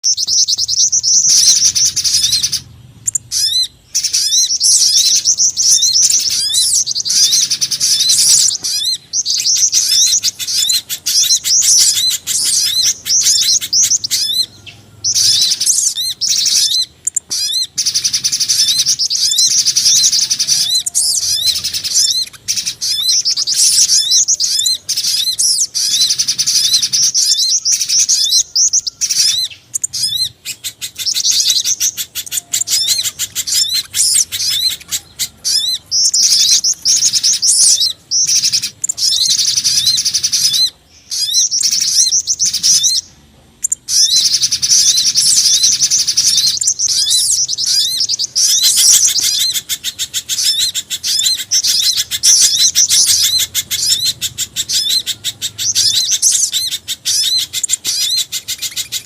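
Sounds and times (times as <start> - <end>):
high thin bird chirps: 0.0 - 59.0.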